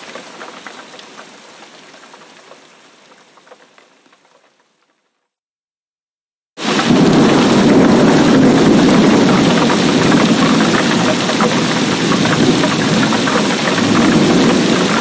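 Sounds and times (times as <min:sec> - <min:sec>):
heavy rain pouring: 0:00.0 - 0:04.8, 0:06.6 - 0:15.0.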